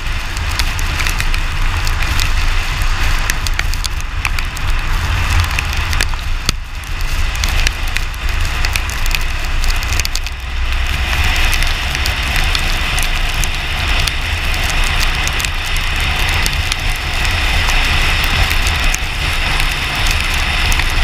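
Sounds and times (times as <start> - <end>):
low wind rumble: 0.0 - 21.0
tyres hissing on wet road: 0.0 - 21.0.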